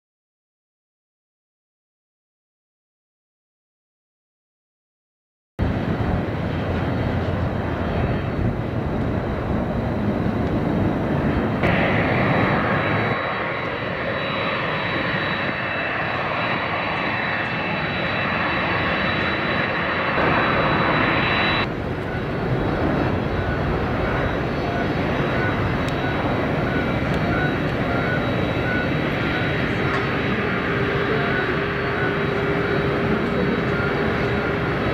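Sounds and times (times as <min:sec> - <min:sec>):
jet engines roaring: 0:05.6 - 0:34.9
steady high whine: 0:05.6 - 0:34.9.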